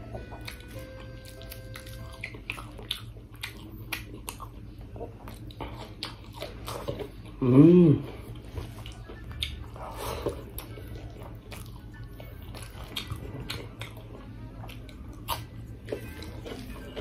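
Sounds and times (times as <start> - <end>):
chewing and mouth smacking: 0.1 - 7.4, 8.1 - 17.0.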